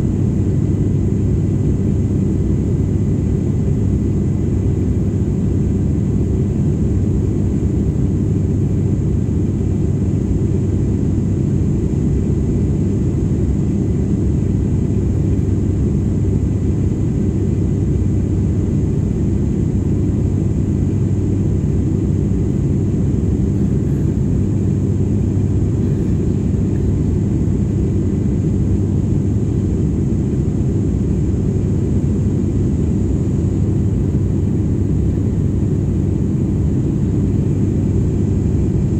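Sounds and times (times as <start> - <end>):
constant low hum: 0.0 - 38.9
plane engines droning: 0.0 - 38.9.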